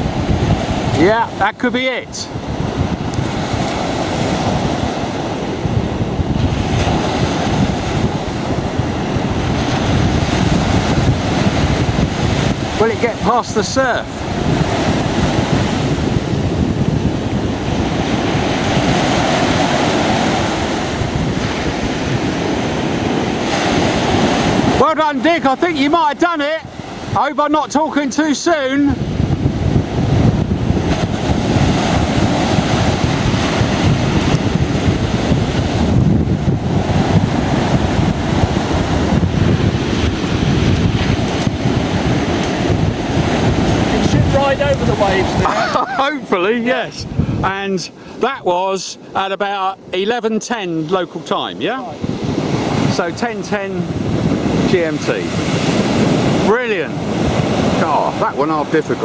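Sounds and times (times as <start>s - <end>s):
surf breaking on beach: 0.0s - 59.0s
wind buffeting microphone: 0.0s - 59.0s.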